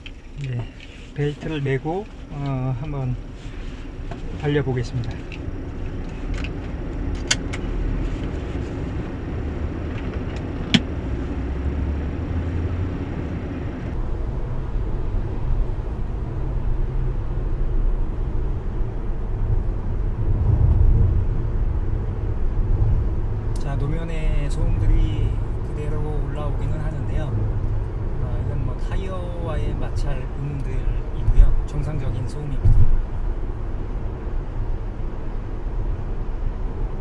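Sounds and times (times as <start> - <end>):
low tyre rumble: 0.0 - 37.0.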